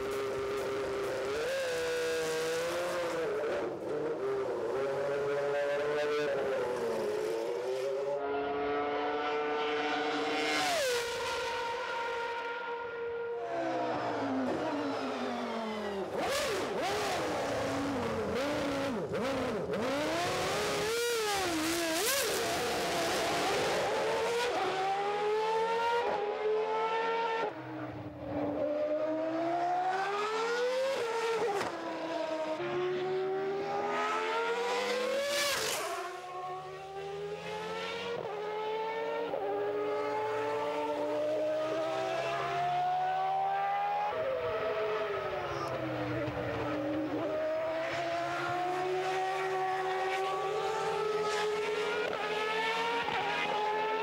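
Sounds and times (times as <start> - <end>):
racing car engine accelerating: 0.0 - 54.0.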